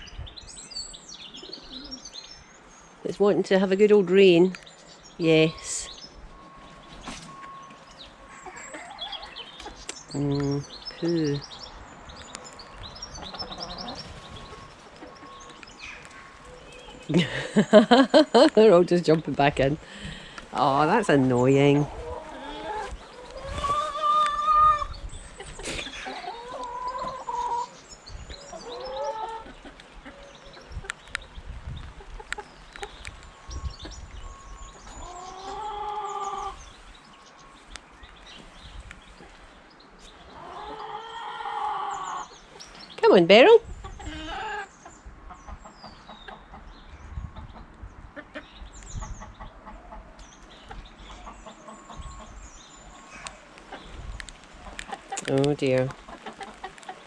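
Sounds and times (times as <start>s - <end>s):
hens calling: 3.1s - 37.8s, 39.1s - 46.7s, 47.4s - 57.0s.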